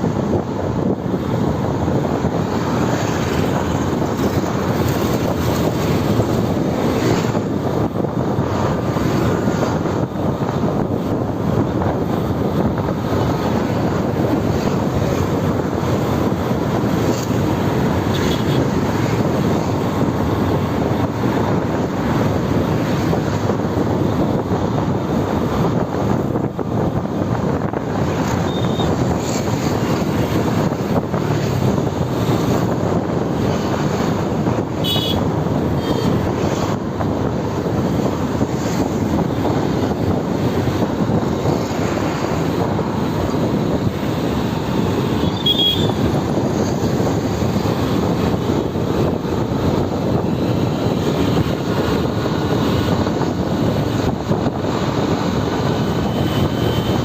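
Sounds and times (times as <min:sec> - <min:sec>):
motorbike road noise: 0:00.0 - 0:57.0
wind rushing: 0:00.0 - 0:57.0.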